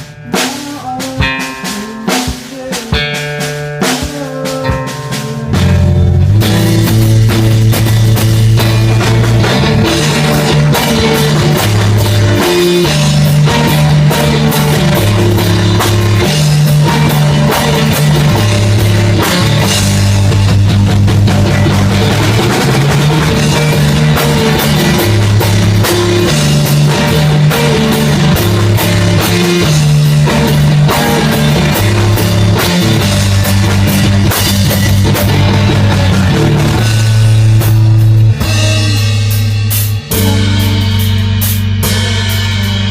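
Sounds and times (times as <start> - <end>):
loud rock music: 0.0 - 42.9.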